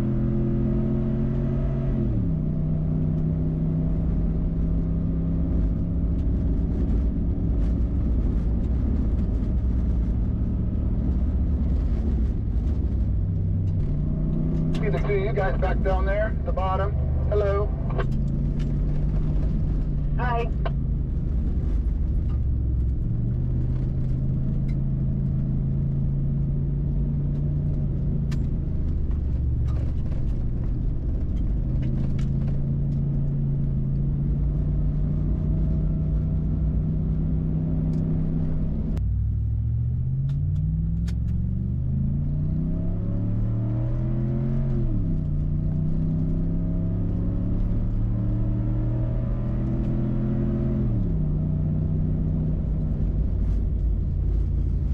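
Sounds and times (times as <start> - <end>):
truck engine accelerating: 0.0 - 54.9.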